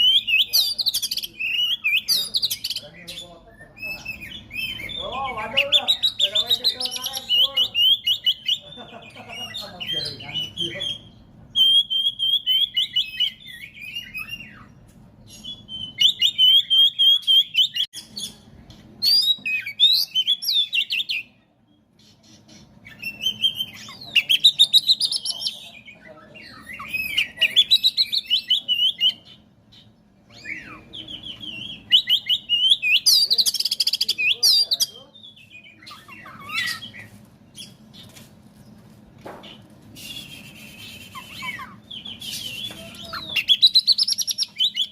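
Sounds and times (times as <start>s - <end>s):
bird singing chattering trills: 0.0s - 38.2s, 39.5s - 44.9s.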